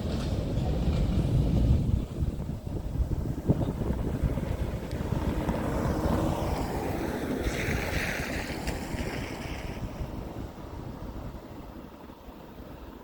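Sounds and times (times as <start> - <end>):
freight train wheels rumbling: 0.0 - 13.0
wind buffeting microphone: 0.0 - 13.0.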